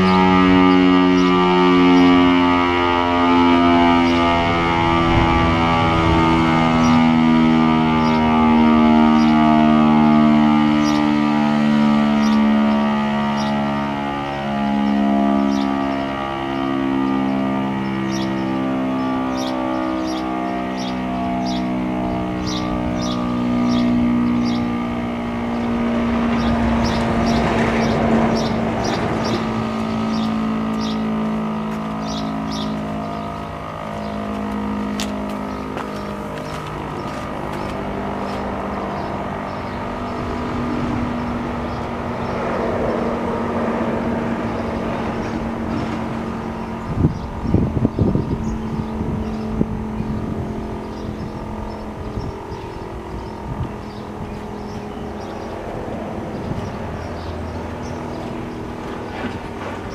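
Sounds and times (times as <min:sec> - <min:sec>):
warning siren winding down: 0:00.0 - 0:59.9.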